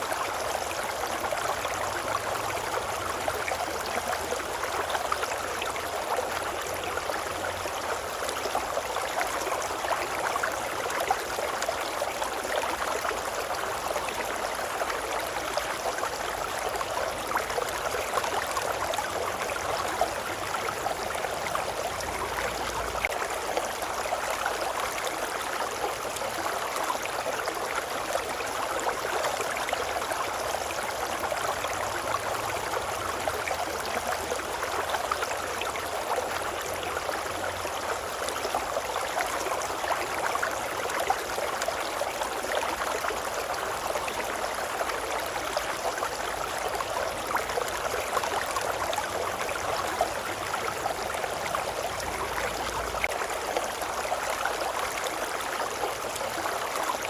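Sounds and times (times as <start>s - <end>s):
river water babbling: 0.0s - 57.0s.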